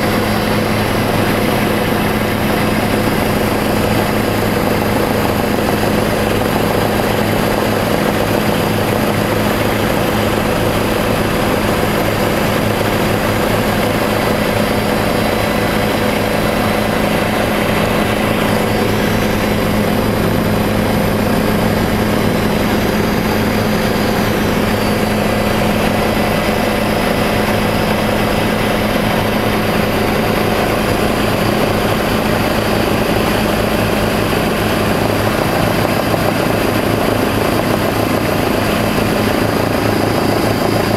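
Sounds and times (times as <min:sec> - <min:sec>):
helicopter rotor and engine drone: 0:00.0 - 0:40.9.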